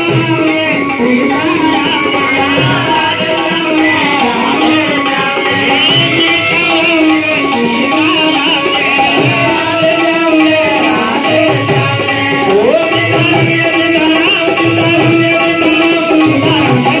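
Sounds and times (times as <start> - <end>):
hand drum beats: 0.0 - 17.0
man singing through microphone: 0.0 - 17.0.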